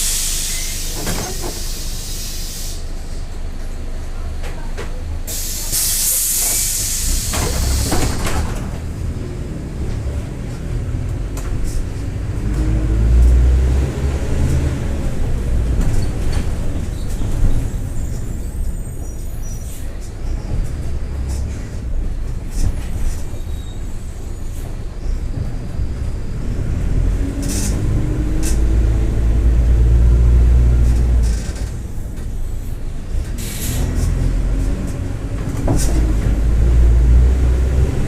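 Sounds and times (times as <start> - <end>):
bus diesel engine rumbling: 0.0 - 38.0.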